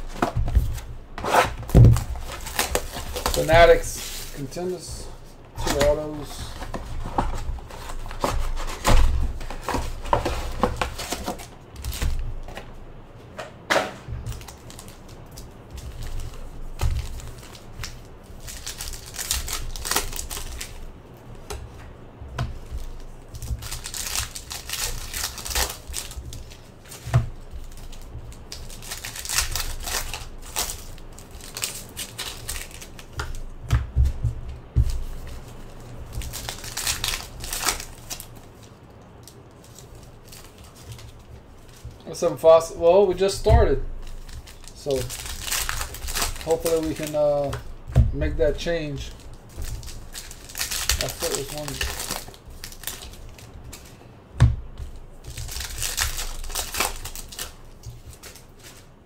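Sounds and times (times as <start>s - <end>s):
card pack wrappers tearing: 0.0s - 12.6s, 14.2s - 20.9s, 22.5s - 33.6s, 35.1s - 42.5s, 43.2s - 47.8s, 48.4s - 54.0s, 54.9s - 58.9s.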